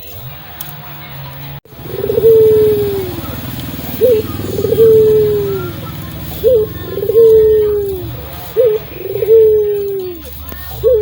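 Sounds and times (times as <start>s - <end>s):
dove cooing: 1.7s - 11.0s.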